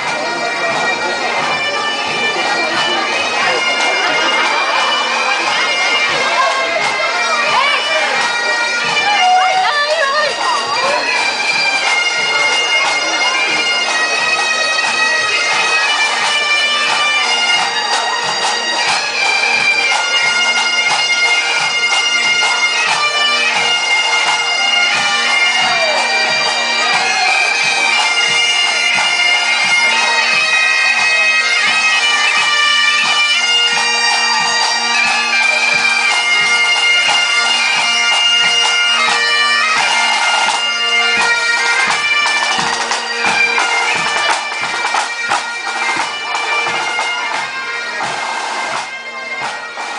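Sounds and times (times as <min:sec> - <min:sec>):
bagpipes playing: 0:00.0 - 0:49.9.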